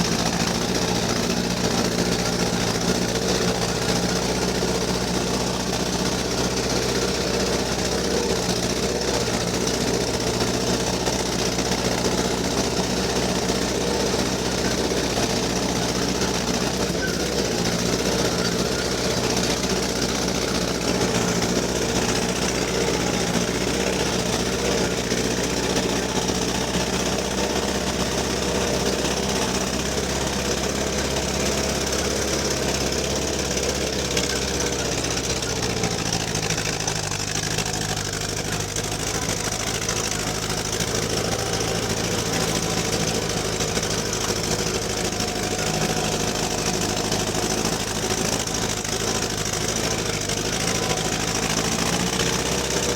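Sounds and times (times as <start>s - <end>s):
car engine running: 0.0s - 52.9s.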